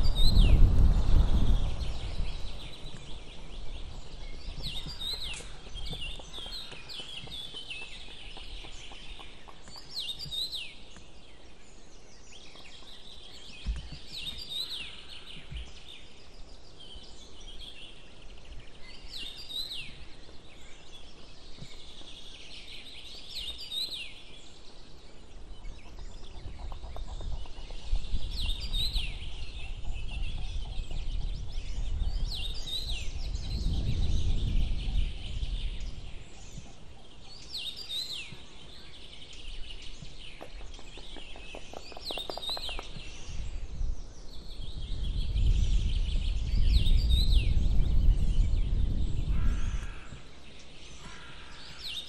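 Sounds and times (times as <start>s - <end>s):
songbird singing: 0.0s - 52.0s.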